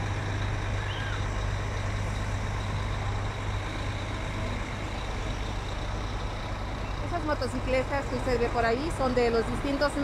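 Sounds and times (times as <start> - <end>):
bus diesel engine idling: 0.0 - 10.0.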